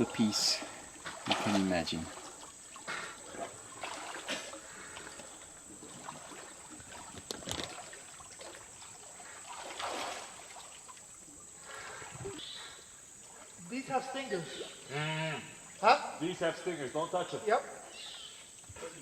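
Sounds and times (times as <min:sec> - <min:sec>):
gentle water sloshes: 0:00.0 - 0:19.0
water trickling and splashing: 0:00.0 - 0:19.0.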